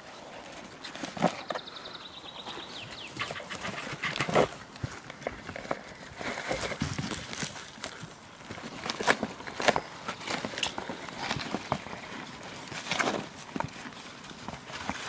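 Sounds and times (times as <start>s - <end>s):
rustles and clicks in cardboard box: 0.0s - 15.0s
sheep stepping on grass: 2.4s - 15.0s.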